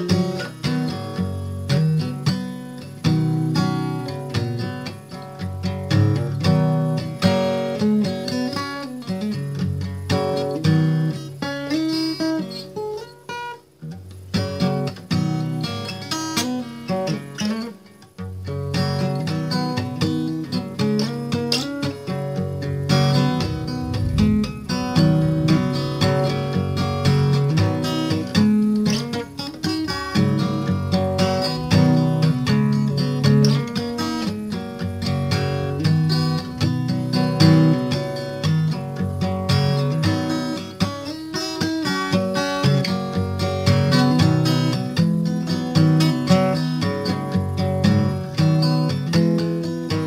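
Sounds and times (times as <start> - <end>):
acoustic guitar chords: 0.0 - 50.0.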